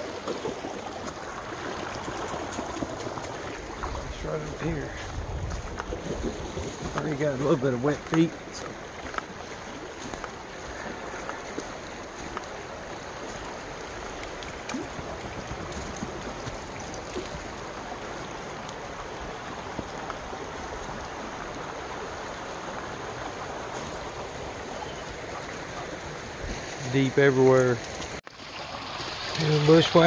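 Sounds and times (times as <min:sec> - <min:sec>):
creek rushing: 0:00.0 - 0:30.0.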